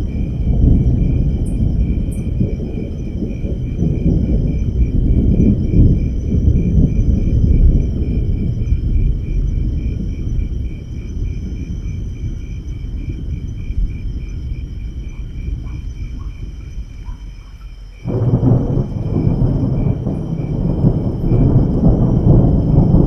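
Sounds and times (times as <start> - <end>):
insects chirring: 0.0 - 23.0
rolling thunder: 0.0 - 23.0.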